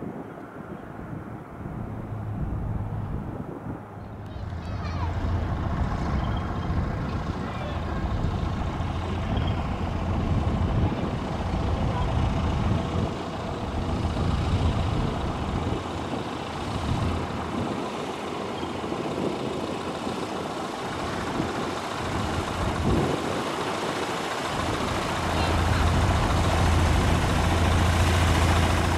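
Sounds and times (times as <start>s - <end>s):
light aircraft engine droning: 0.0s - 28.9s.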